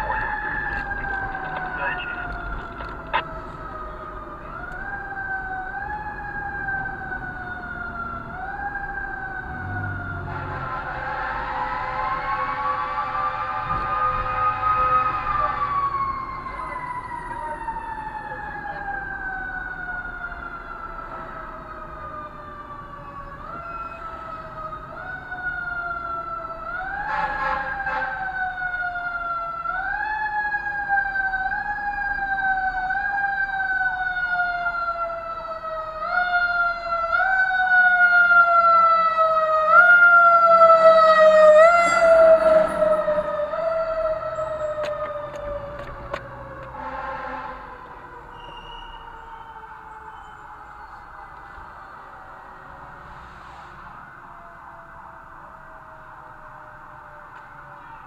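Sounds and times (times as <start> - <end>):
fire engine siren wailing: 0.0 - 58.0.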